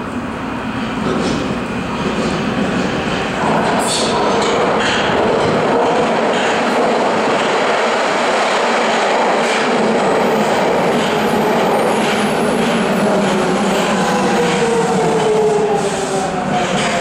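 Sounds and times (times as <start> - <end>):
train wheels on rail: 0.0 - 17.0.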